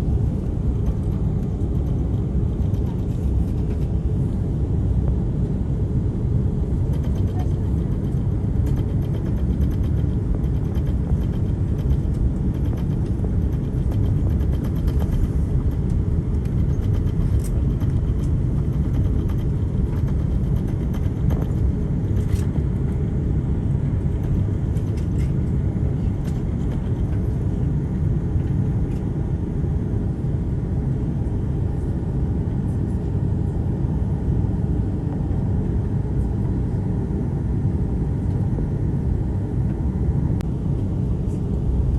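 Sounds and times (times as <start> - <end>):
airplane cabin low rumble: 0.0 - 41.9.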